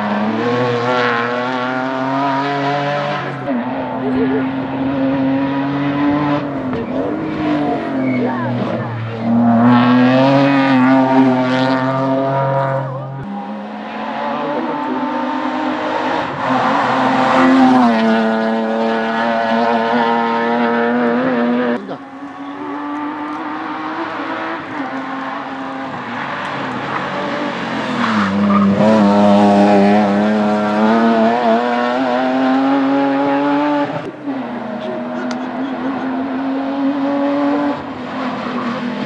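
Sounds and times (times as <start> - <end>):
race car engine at high revs: 0.0 - 39.0.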